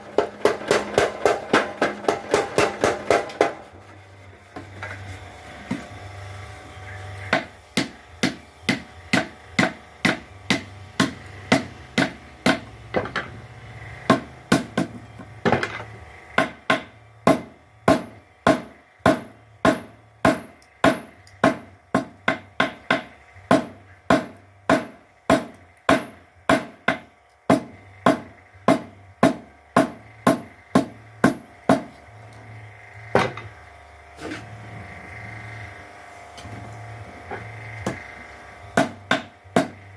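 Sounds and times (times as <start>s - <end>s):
low motor hum: 0.0s - 26.4s, 27.3s - 39.9s.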